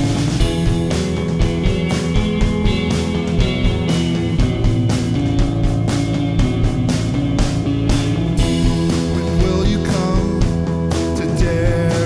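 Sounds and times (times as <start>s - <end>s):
drum kit steady beat: 0.0s - 12.0s
electric guitar strumming chords: 0.0s - 12.0s.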